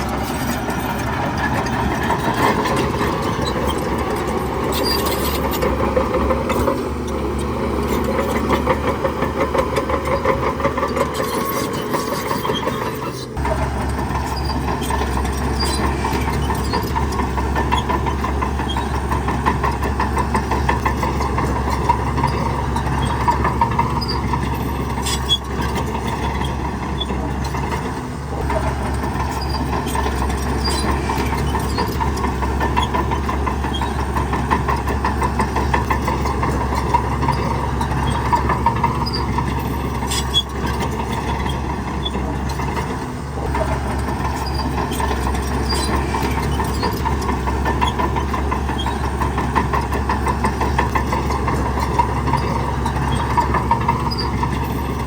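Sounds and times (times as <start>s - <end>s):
diesel engine running: 0.0s - 55.0s
fast metallic rattle: 0.0s - 55.0s.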